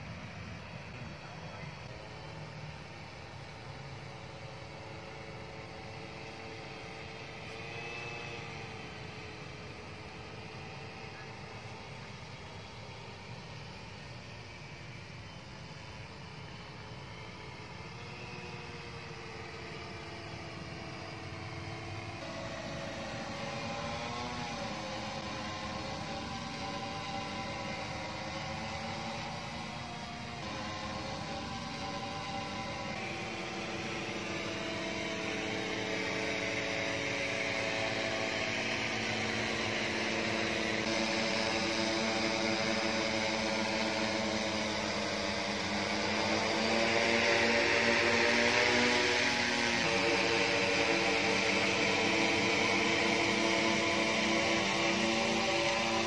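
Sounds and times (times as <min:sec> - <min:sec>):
drone propellers humming: 0:00.0 - 0:56.0.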